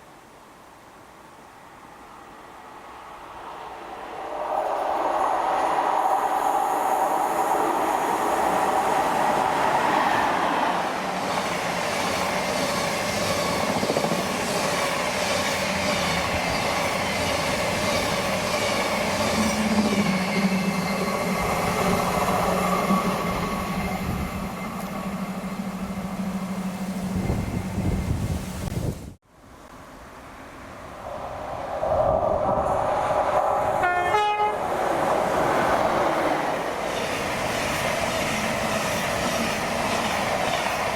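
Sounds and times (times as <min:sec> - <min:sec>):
train running on rails: 0:01.6 - 0:28.8, 0:29.7 - 0:40.9.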